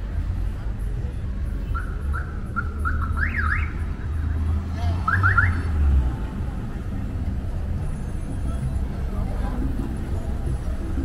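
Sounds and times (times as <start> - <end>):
traffic rumbling past: 0.0 - 11.0.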